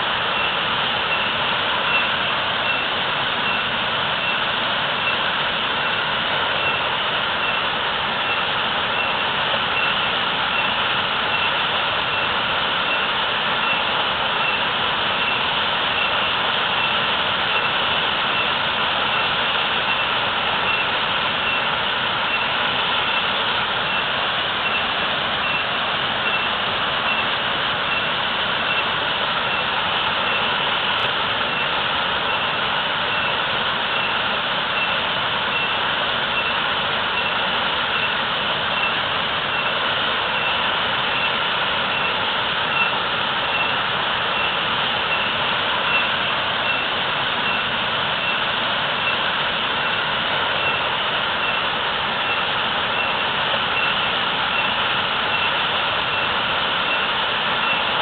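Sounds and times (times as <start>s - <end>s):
waterfall splashing: 0.0s - 58.0s.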